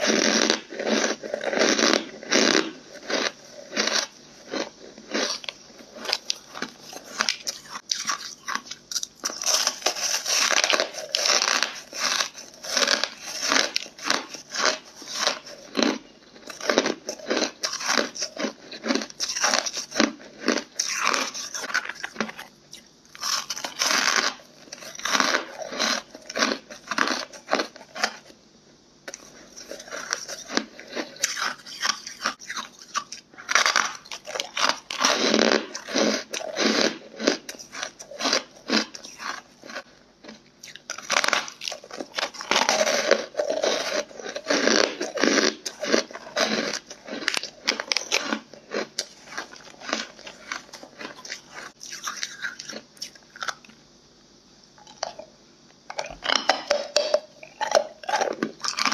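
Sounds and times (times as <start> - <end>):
ice crunching being chewed: 0.0 - 28.2, 29.1 - 53.8, 55.9 - 58.9.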